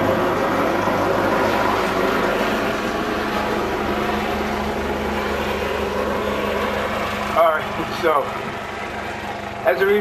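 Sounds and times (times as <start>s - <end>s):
aircraft engine droning: 0.0s - 10.0s.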